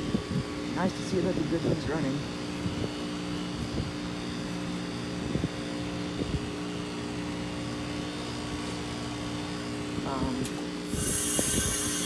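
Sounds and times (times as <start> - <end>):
heat pump compressor and fan hum: 0.0 - 12.0.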